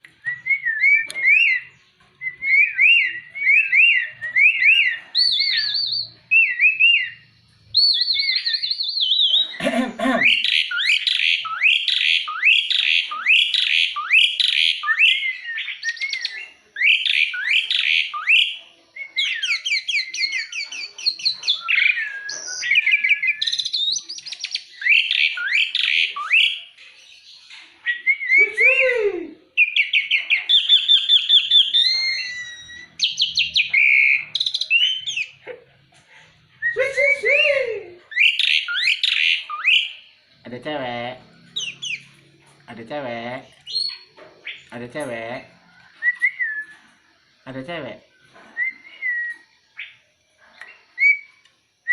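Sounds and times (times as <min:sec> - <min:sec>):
starling singing: 0:00.0 - 0:51.9.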